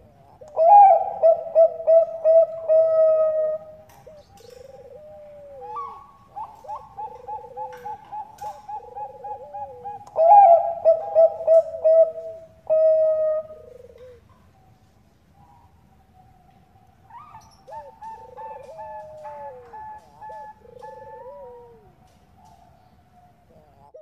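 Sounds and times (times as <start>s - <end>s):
rolling trilled coos: 0.0s - 14.6s, 17.1s - 24.0s
dove cooing: 0.0s - 24.0s.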